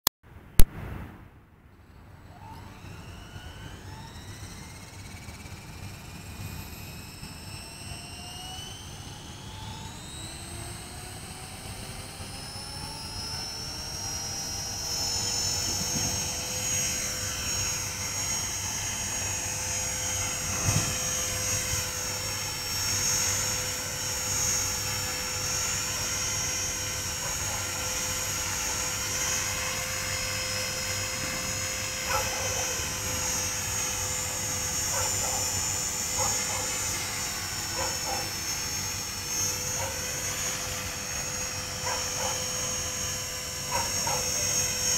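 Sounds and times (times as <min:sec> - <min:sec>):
model helicopter rotor whine: 0:02.0 - 0:44.9.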